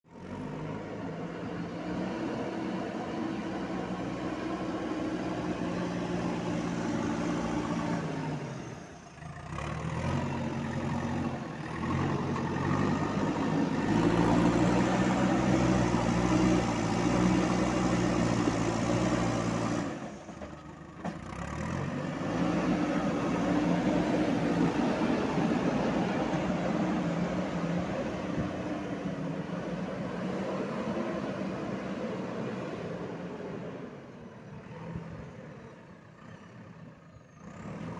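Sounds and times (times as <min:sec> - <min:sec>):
diesel engine running and revving: 0:00.0 - 0:37.9.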